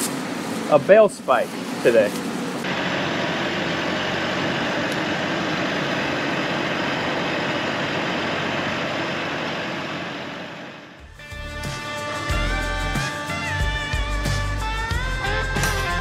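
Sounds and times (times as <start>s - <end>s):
tractor diesel engine running: 2.6s - 16.0s.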